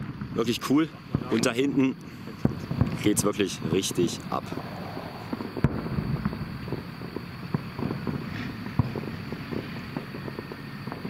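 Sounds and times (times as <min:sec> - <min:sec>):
distant fireworks bursting: 0:00.0 - 0:11.0
sharp firework bang: 0:00.0 - 0:11.0
steady low rumble: 0:00.0 - 0:11.0.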